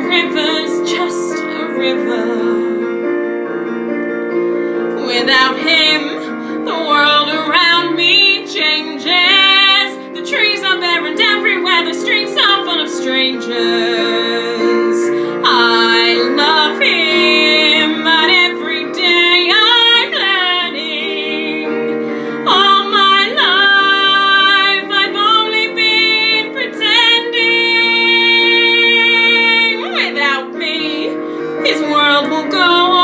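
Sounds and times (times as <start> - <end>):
woman singing ballad: 0.0 - 3.0, 5.0 - 33.0
sustained chord accompaniment: 0.0 - 33.0.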